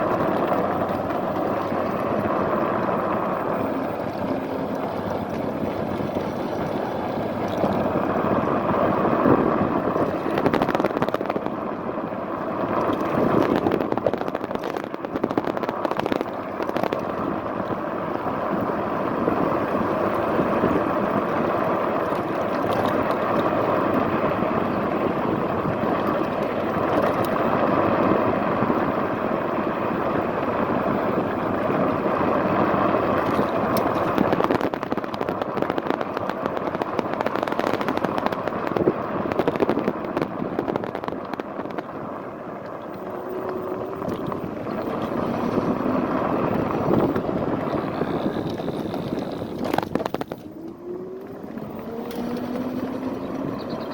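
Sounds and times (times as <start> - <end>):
scooter road noise: 0.0 - 53.9
wind buffeting microphone: 0.0 - 53.9.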